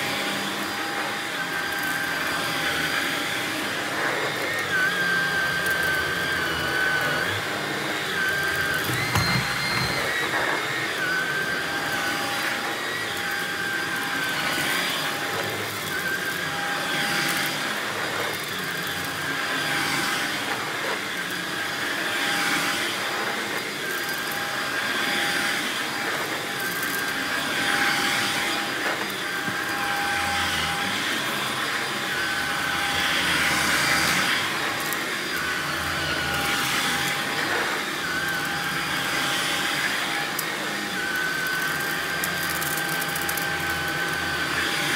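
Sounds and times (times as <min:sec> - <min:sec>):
stick vacuum running on rug: 0:00.0 - 0:44.9.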